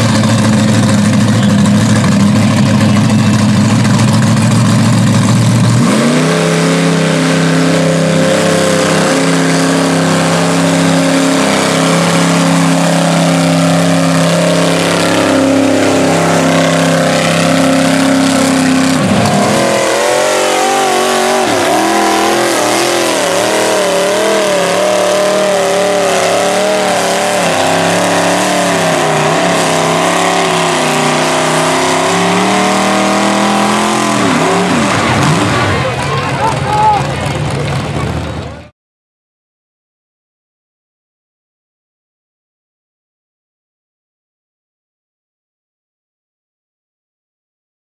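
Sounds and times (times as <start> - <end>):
truck engines revving: 0.0 - 38.7.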